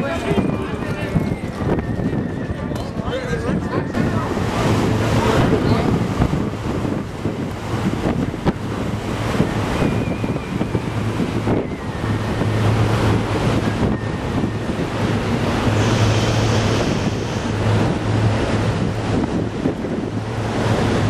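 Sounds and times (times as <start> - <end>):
choppy sea water: 0.0 - 21.0
wind buffeting microphone: 0.0 - 21.0.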